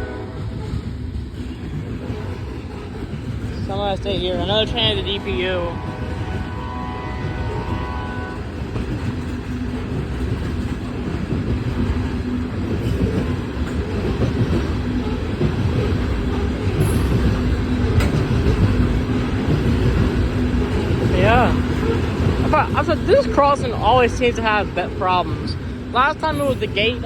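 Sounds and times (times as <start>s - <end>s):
train wheels clattering on rails: 0.3s - 27.0s.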